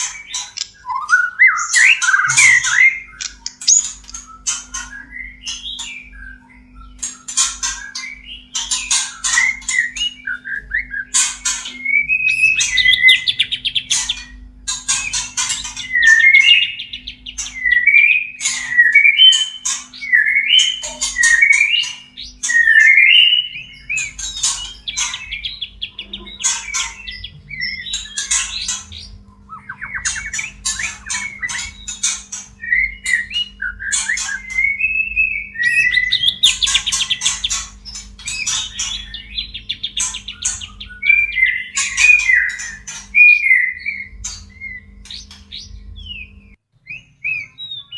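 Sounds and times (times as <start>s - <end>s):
bird chattering and whistling: 0.0s - 47.9s.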